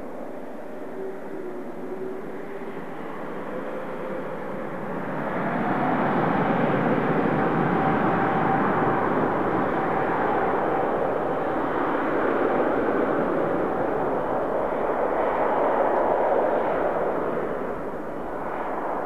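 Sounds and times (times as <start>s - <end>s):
jet engines roaring: 2.1s - 19.0s.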